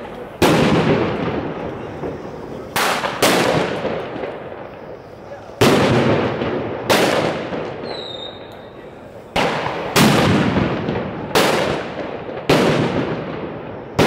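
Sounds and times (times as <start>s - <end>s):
loud firework bangs echoing: 0.0s - 14.0s.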